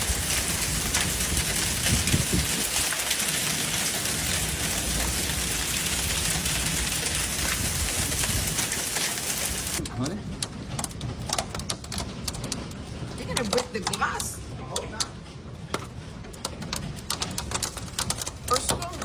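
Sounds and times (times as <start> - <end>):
heavy rain pouring: 0.0 - 15.5, 16.4 - 19.0.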